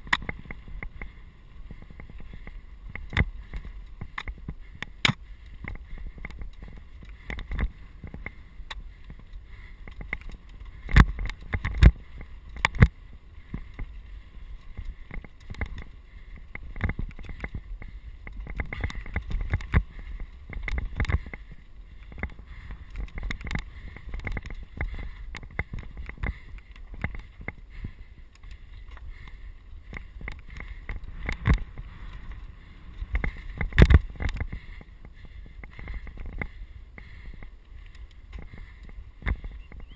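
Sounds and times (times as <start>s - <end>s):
bike knocking and rattling on rocks: 0.0s - 39.9s
bike tyres rumbling on stones: 0.0s - 39.9s.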